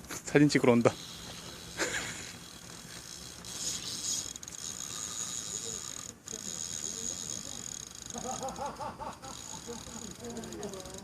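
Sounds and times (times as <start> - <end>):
fishing reel ratcheting: 0.0 - 11.0.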